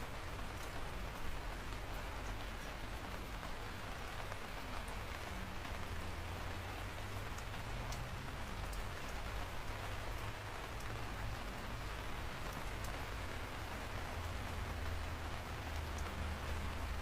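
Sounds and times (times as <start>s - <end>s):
rain pattering on a surface: 0.0s - 17.0s.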